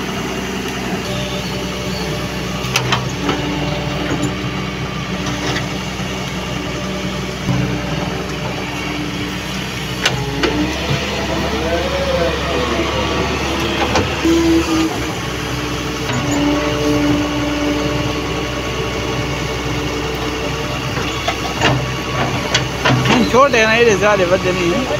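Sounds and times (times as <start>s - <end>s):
heavy diesel engine running: 0.0s - 24.9s.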